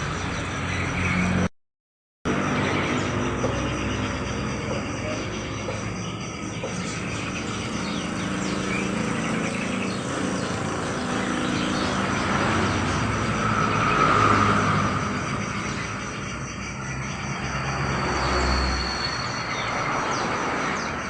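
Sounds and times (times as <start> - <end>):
small birds chirping: 0.0 - 1.5, 2.3 - 21.0
traffic noise: 0.0 - 1.5, 2.3 - 21.0.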